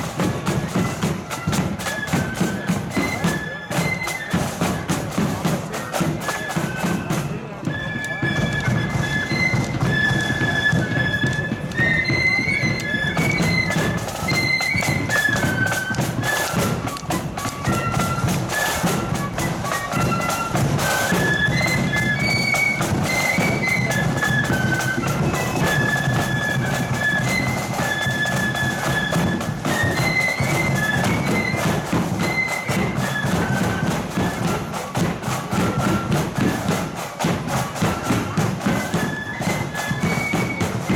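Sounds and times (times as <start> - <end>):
flutes playing melody: 0.0 - 40.9.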